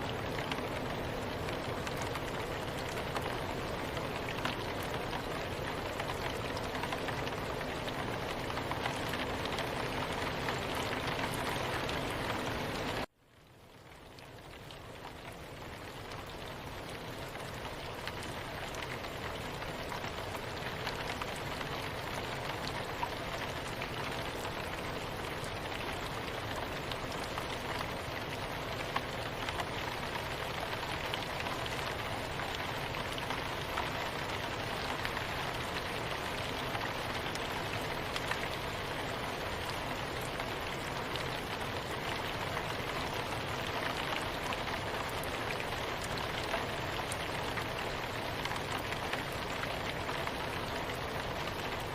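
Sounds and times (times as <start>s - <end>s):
steady rain hiss: 0.0s - 51.9s
raindrops ticking: 0.1s - 51.9s.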